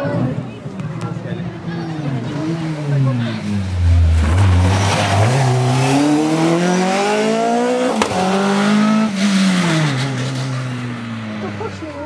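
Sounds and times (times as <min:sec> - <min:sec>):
rally car engine at full throttle: 0:00.0 - 0:12.0.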